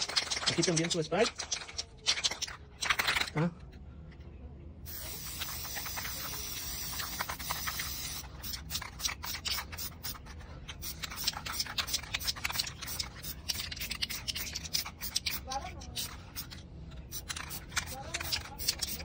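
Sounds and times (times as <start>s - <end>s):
spray paint can hissing: 0.0s - 3.2s, 4.9s - 19.0s.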